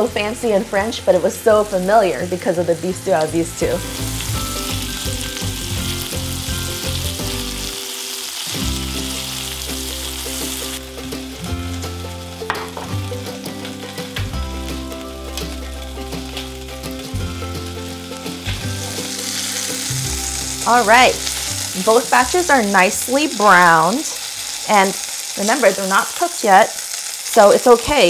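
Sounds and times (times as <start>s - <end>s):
meat sizzling in oil: 0.0s - 28.0s.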